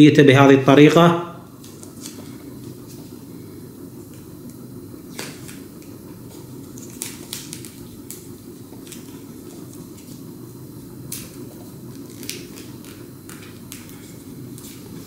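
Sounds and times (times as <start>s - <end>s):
steady low hum: 0.0s - 15.0s
electrical tape crackling: 1.4s - 15.0s.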